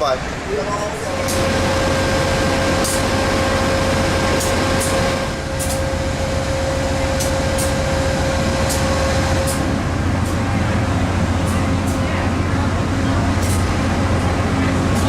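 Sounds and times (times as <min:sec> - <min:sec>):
train running hum: 0:00.0 - 0:15.0.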